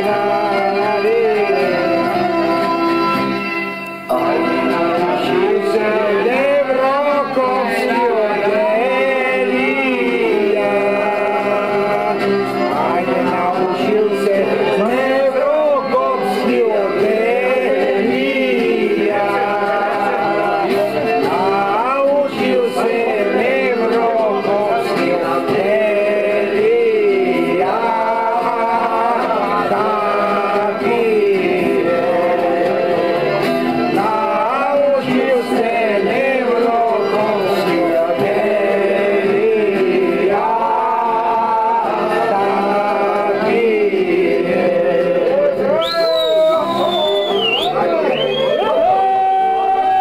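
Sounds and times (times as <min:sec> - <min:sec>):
group singing: 0:00.0 - 0:03.4, 0:04.0 - 0:50.0.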